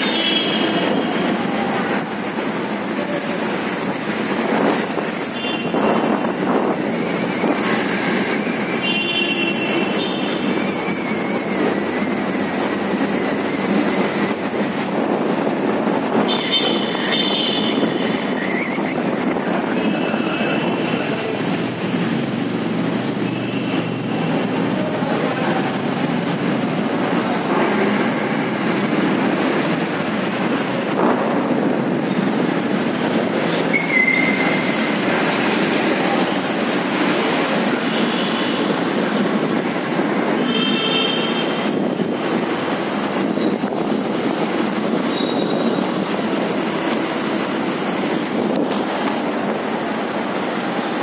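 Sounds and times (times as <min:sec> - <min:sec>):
vehicle and road noise: 0:00.0 - 0:51.0.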